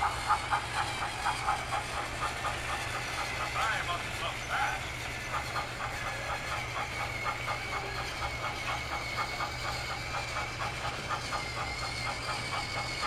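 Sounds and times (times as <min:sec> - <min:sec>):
toy train clicking on track: 0:00.0 - 0:13.0
toy train motor whine: 0:00.0 - 0:13.0.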